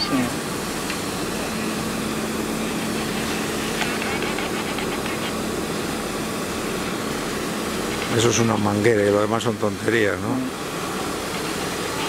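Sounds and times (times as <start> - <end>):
pump hum: 0.0 - 12.0
water spraying from a hose: 0.0 - 12.0.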